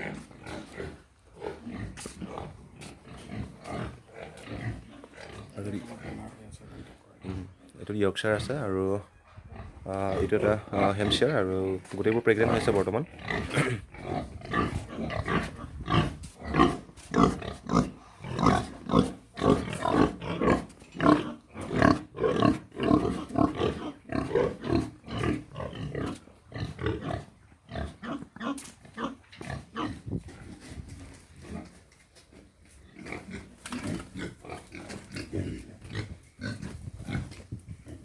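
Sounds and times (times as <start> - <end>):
pigs grunting: 0.0 - 7.8, 9.3 - 31.8, 32.9 - 38.0.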